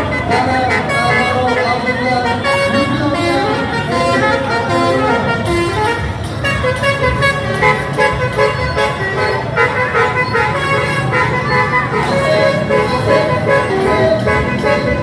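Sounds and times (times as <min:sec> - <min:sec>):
musical air horn melody: 0:00.0 - 0:15.0
truck engine running: 0:00.0 - 0:15.0.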